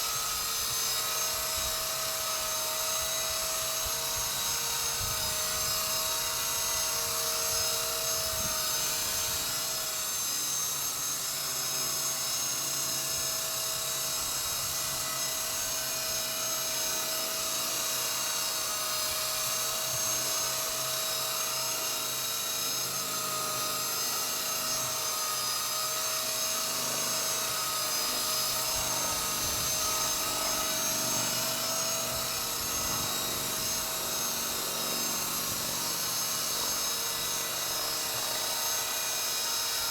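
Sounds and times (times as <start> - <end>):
rc helicopter whine: 0.0 - 39.9.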